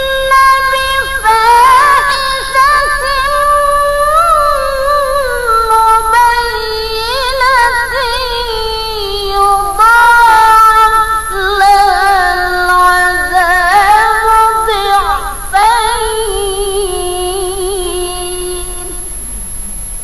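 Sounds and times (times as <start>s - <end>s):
woman reciting melodically: 0.0s - 19.7s.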